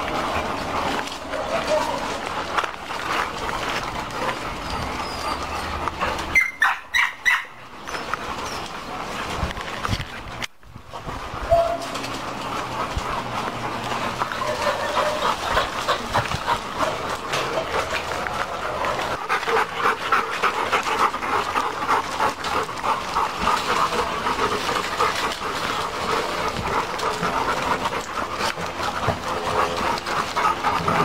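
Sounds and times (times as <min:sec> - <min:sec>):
dogs panting: 0:00.0 - 0:31.0
paws crunching on gravel: 0:00.0 - 0:31.0.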